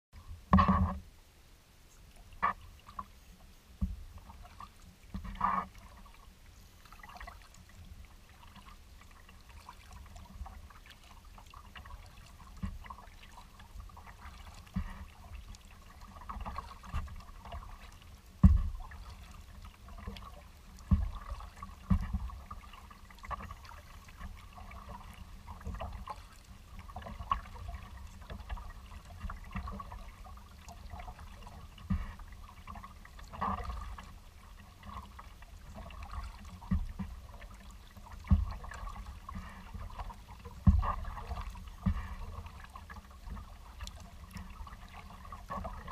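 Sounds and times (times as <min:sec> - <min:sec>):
paddle splashing water: 0:00.2 - 0:01.1, 0:01.8 - 0:45.9.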